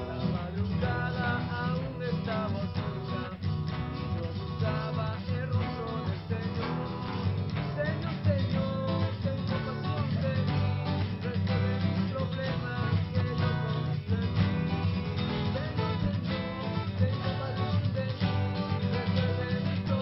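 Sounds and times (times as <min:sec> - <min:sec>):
guitar-led background music: 0:00.0 - 0:20.0.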